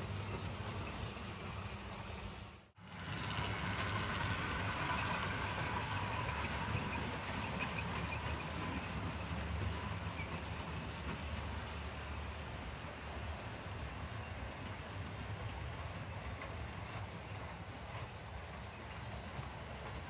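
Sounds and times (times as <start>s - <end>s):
model train motor hum: 0.0s - 20.0s.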